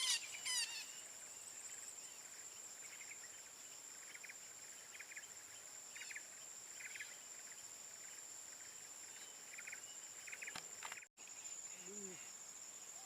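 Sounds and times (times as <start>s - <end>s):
insect pulsing chirp: 0.0s - 13.0s
insects high-pitched buzz: 0.0s - 13.0s.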